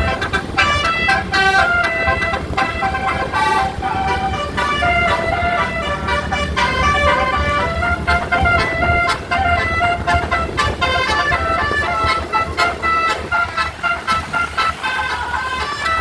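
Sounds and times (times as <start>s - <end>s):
musical air horn playing tune: 0.0s - 16.0s
steady low rumble: 0.0s - 16.0s.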